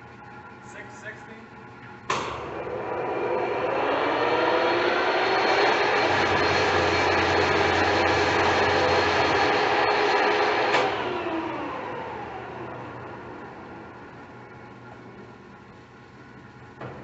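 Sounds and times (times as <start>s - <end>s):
lathe gearing whine: 0.0s - 16.8s.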